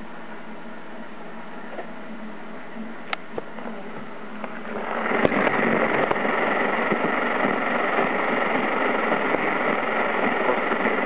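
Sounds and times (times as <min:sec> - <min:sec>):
rough noise drone: 0:00.0 - 0:11.0.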